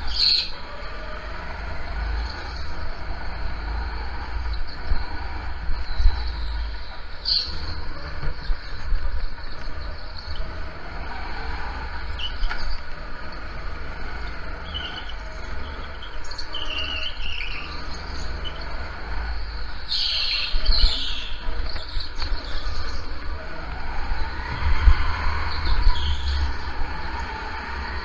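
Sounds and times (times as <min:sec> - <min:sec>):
go-kart engine rumble: 0:00.0 - 0:28.0
go-kart tyres squealing: 0:00.0 - 0:28.0.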